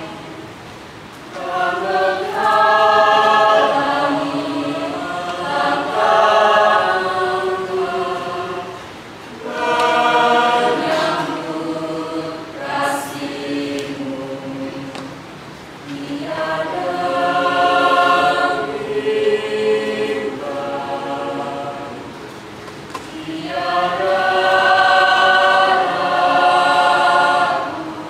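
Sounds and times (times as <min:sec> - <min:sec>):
choir singing: 0:00.0 - 0:00.6, 0:01.3 - 0:15.2, 0:15.8 - 0:22.3, 0:23.0 - 0:28.0.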